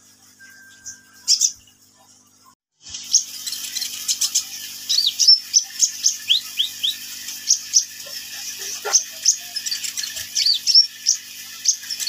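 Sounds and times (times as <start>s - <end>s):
bird singing high chirps: 0.4s - 1.7s, 3.0s - 8.0s, 8.6s - 12.0s.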